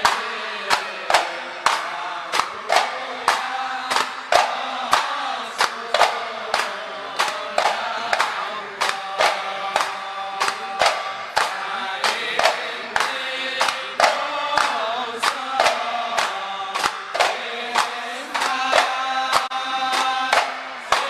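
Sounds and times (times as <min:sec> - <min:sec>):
frame drums beating: 0:00.0 - 0:21.0
men chanting in unison: 0:00.0 - 0:21.0.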